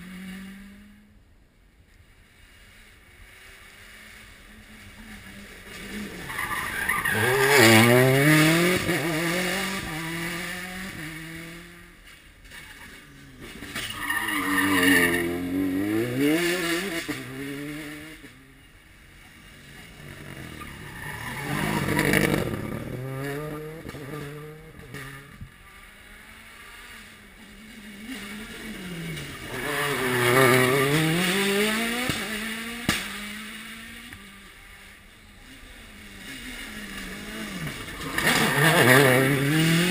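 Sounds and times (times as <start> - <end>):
rally cars passing: 0.0 - 1.3, 2.2 - 39.9.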